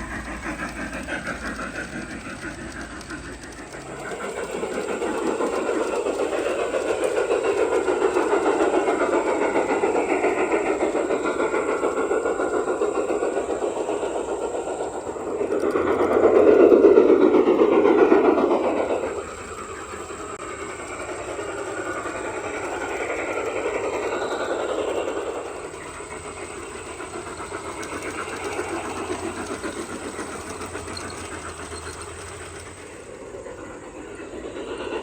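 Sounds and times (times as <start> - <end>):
model train wheels rattling: 0.0 - 35.0.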